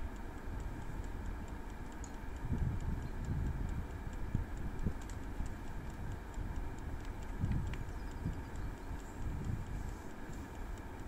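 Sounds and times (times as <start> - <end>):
clockwork timer ticking: 0.0 - 11.0
fan humming: 0.0 - 11.0
wind rumble on microphone: 2.1 - 11.0.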